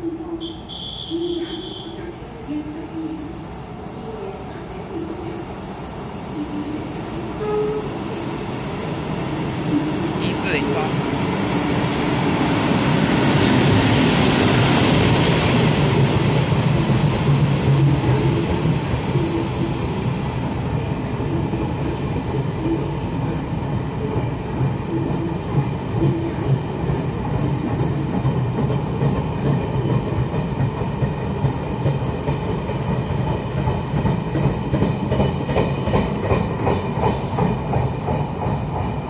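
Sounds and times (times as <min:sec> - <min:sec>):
train passing through station: 0:00.0 - 0:39.0.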